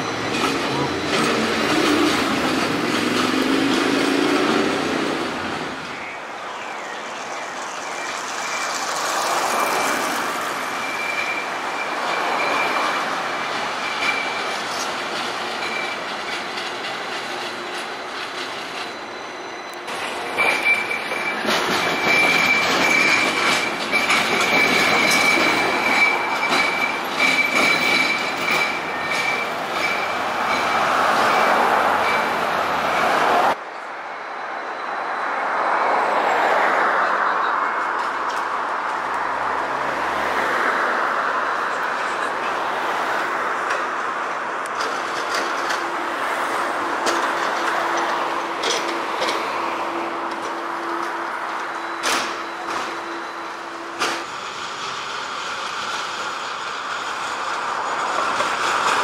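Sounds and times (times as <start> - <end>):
wheels clicking over rail joints: 0.0 - 6.0, 7.0 - 19.0, 19.7 - 33.1, 41.3 - 59.0
tram running rumble: 0.0 - 35.6, 36.2 - 59.0
tram wheels squealing: 0.0 - 59.0.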